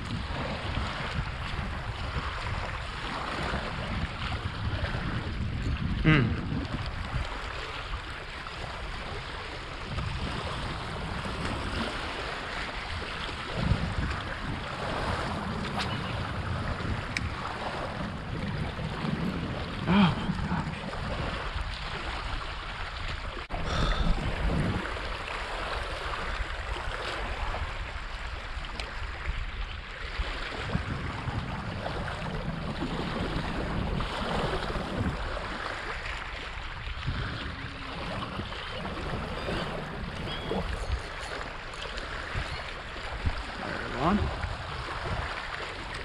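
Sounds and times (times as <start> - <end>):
lake waves lapping on rocks: 0.0 - 46.0
wind rumbling on microphone: 0.0 - 46.0.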